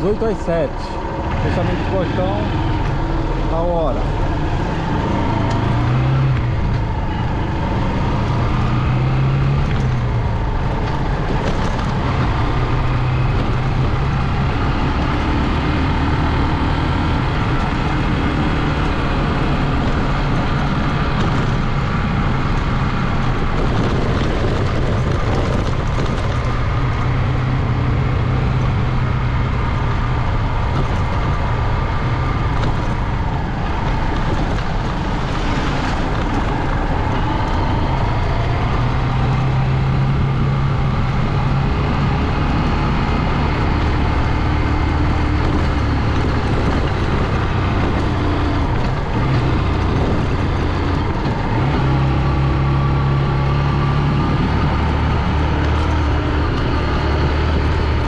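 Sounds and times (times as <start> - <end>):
wind rushing: 0.0 - 55.5
motorcycle engine running: 0.0 - 58.0.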